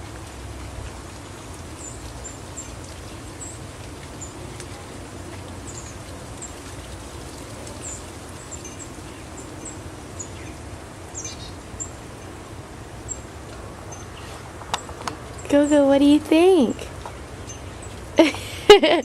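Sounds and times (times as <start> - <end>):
small birds chirping: 1.4 - 18.5.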